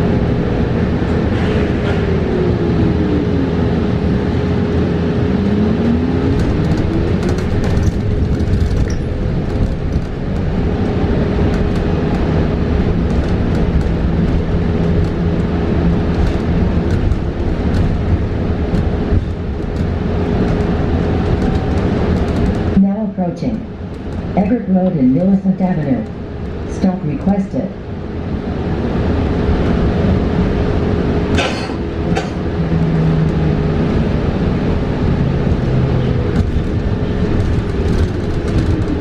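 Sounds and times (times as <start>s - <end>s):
electric bus drive whine: 0.0s - 22.8s, 27.7s - 39.0s
constant high hum: 0.0s - 39.0s
road and tyre rumble: 0.0s - 39.0s.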